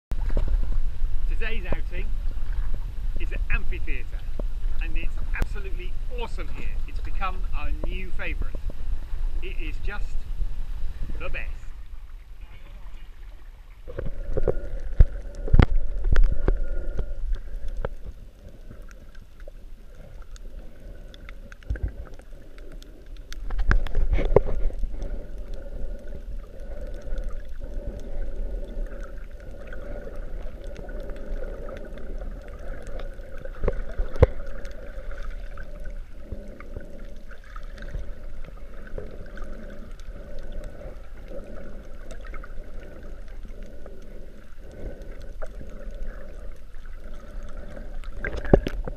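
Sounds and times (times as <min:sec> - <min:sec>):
muffled underwater water rumble: 0:00.1 - 0:48.9.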